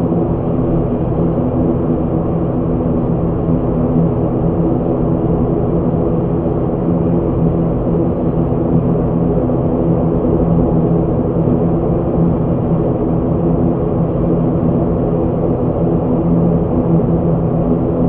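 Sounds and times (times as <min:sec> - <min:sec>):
turboprop engines droning: 0:00.0 - 0:18.0.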